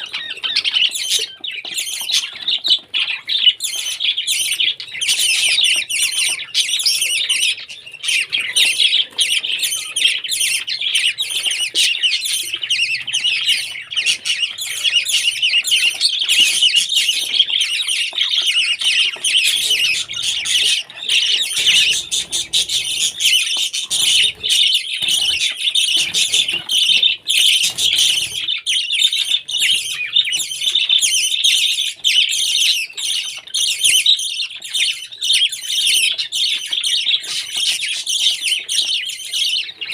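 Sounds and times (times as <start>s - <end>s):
parrots chattering: 0.0s - 39.9s.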